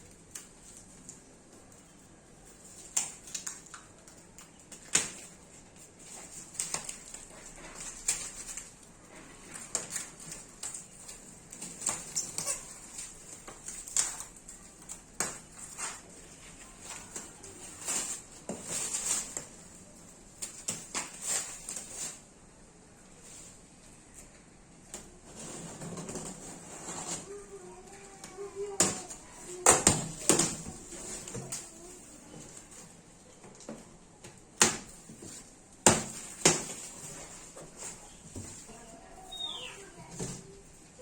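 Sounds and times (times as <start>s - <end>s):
packaging rustling and crinkling: 0.2s - 22.3s, 25.2s - 33.8s, 34.8s - 41.0s.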